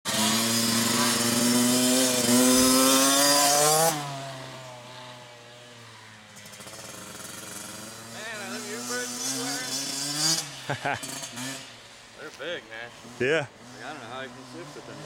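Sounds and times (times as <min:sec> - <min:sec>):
small dirt bike engine revving: 0:00.1 - 0:15.0.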